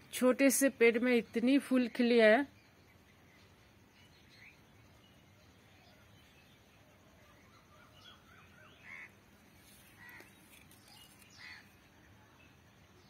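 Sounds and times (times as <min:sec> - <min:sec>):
faint bird chirps: 0:00.9 - 0:13.0.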